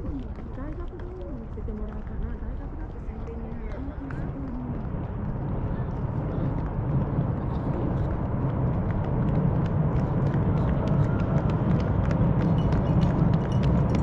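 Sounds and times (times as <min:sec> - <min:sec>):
runners' footsteps slapping on road: 0:00.0 - 0:14.0
steady low rumble: 0:00.0 - 0:14.0.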